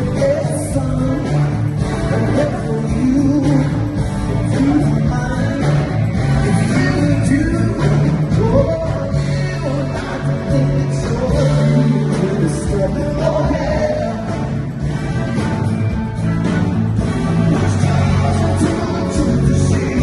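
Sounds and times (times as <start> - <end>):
person singing: 0.0 - 14.7, 17.5 - 20.0
rock band with guitar: 0.0 - 20.0
steady bass line: 0.0 - 20.0.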